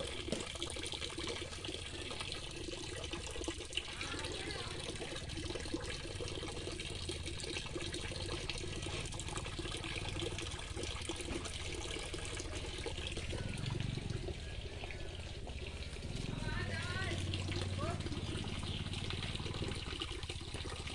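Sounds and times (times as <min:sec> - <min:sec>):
water from hose splashing: 0:00.0 - 0:20.9.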